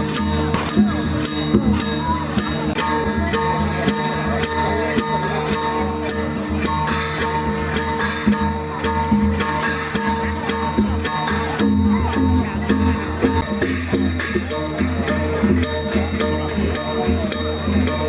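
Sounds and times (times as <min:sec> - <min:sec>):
cymbals struck in a beat: 0:00.0 - 0:18.0
drum: 0:00.0 - 0:18.0
ringing gong tones: 0:00.0 - 0:18.0.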